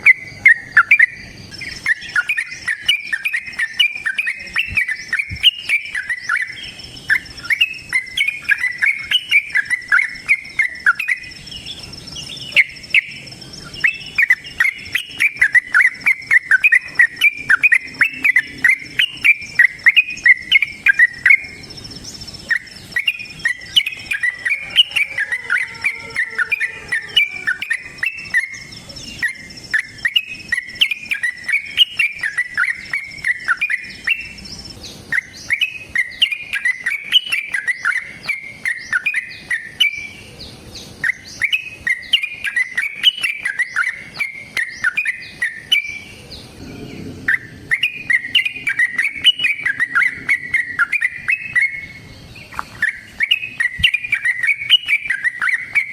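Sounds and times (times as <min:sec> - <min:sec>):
bulbul singing chattering phrases: 0:00.0 - 0:55.9
high insect tone: 0:00.0 - 0:55.9.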